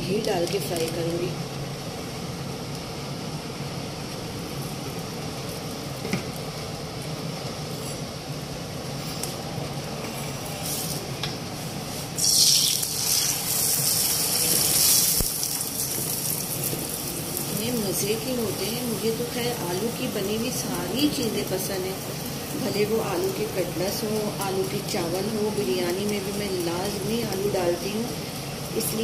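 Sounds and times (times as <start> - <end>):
loud frying sizzle: 0.0 - 29.0.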